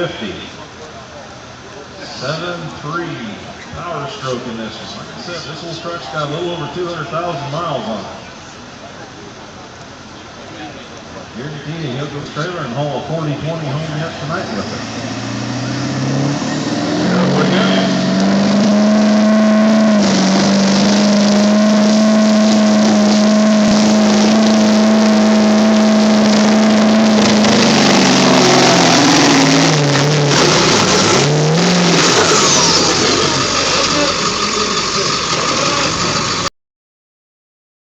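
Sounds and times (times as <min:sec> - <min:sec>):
diesel truck engine at full throttle: 0:00.0 - 0:36.5.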